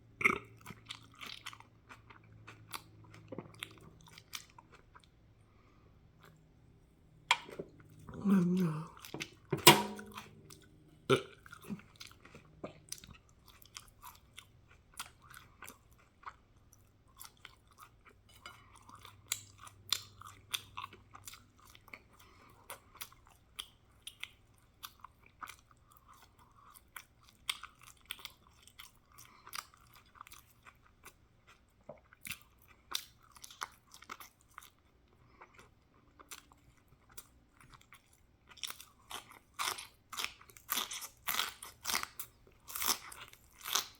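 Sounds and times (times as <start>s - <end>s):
person chewing crunchy food: 0.1s - 6.4s, 7.3s - 43.9s.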